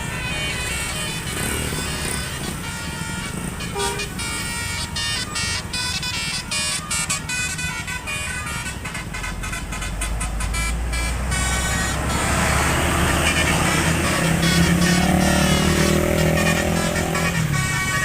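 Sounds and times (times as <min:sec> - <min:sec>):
multi-tone bus horn tune: 0:00.0 - 0:18.0.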